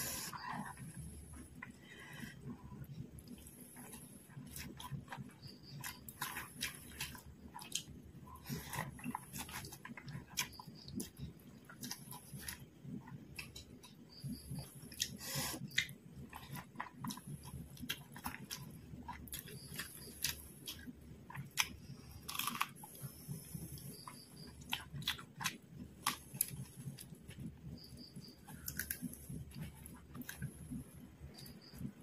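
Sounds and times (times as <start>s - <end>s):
person chewing crunchy food: 0.0s - 32.0s.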